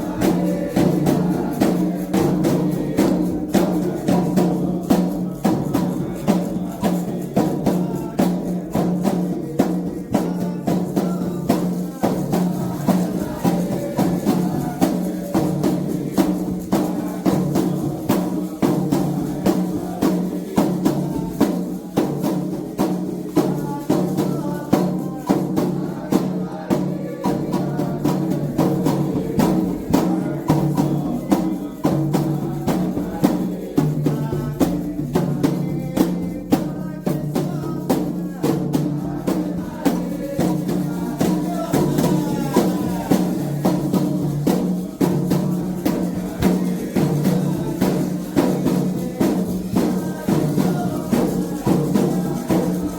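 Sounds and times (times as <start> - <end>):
hand drums rhythm: 0.0 - 52.9.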